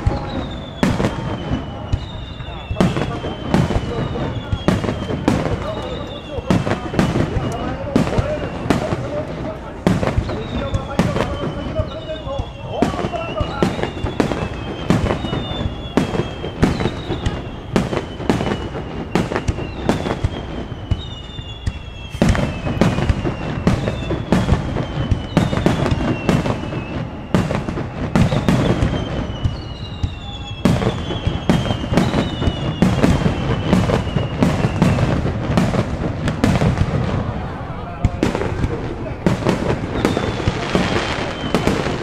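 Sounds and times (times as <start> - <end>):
firework whistles sliding down: 0.0 - 37.3, 38.3 - 42.0
fireworks cracking and booming: 0.0 - 42.0.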